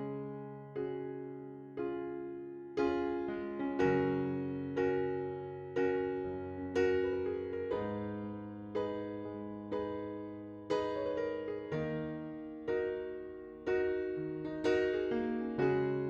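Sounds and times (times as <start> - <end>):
soft electric piano chords: 0.0 - 16.0.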